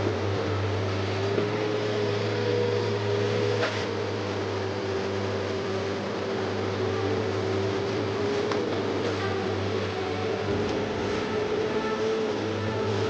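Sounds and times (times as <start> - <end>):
excavator engine drone: 0.0 - 13.0
steady whine: 2.1 - 13.0.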